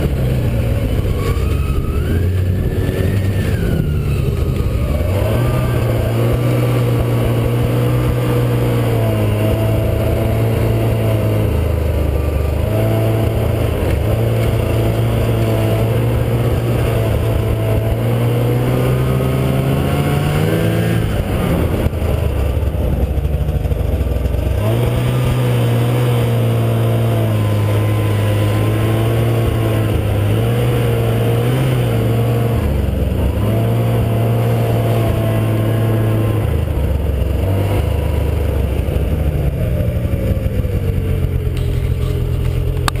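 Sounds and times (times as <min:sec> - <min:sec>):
snowmobile engine under throttle: 0:00.0 - 0:43.0.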